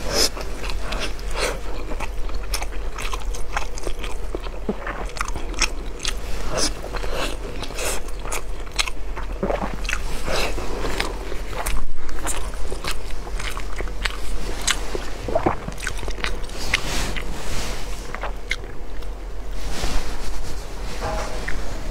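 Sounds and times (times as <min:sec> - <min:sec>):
crunchy chewing: 0:00.0 - 0:19.5.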